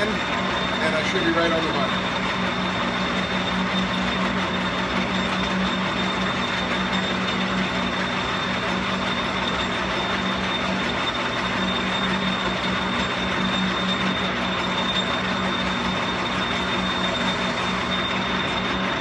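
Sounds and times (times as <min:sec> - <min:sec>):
metal lathe running: 0:00.0 - 0:19.0.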